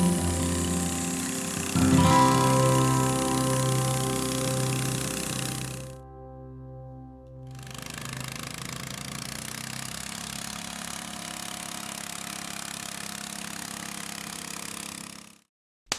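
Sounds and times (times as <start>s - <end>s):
garden tractor engine running: 0.0s - 6.0s, 7.5s - 15.3s.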